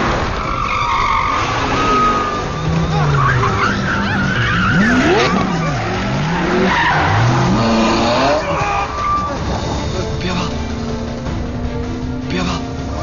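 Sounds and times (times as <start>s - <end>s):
car engine revving: 0.0s - 13.0s
tyres skidding and squealing: 0.0s - 13.0s.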